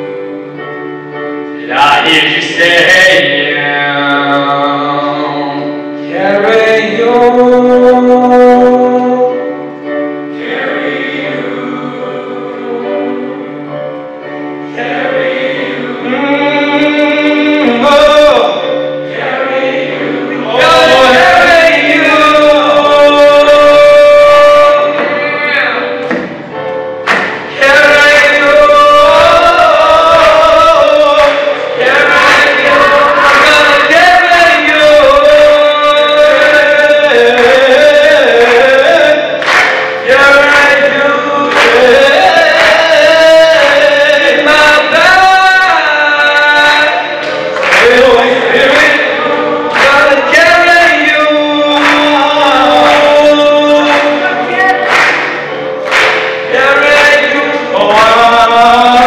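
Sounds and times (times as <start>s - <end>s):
boys' choir singing: 1.6s - 9.4s, 10.3s - 13.9s, 14.6s - 59.0s.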